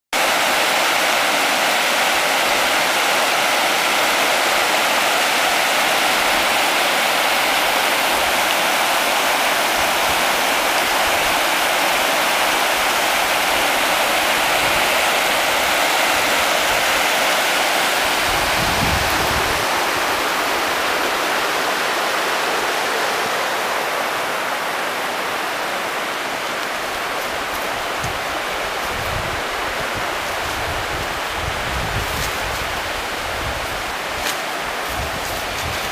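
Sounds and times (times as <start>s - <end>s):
stream rushing over rocks: 0.1s - 35.9s.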